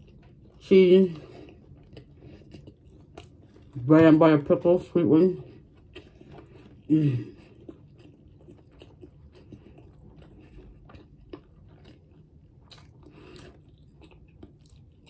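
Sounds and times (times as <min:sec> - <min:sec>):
faint chewing of sandwich: 0:00.0 - 0:03.9, 0:05.3 - 0:15.0.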